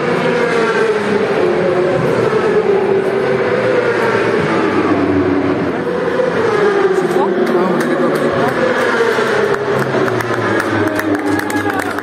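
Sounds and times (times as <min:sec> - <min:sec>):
racing motorcycle engine revving: 0:00.0 - 0:12.0.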